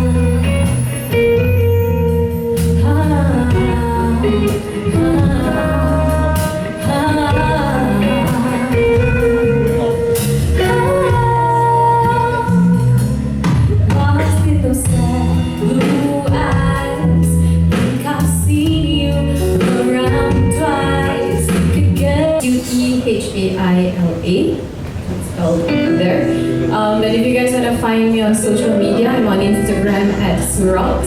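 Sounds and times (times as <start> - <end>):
woman singing: 0.0 - 1.5, 2.6 - 9.5, 10.6 - 13.2, 13.8 - 23.2, 25.8 - 31.0
guitar accompaniment: 0.0 - 23.0, 24.7 - 31.0.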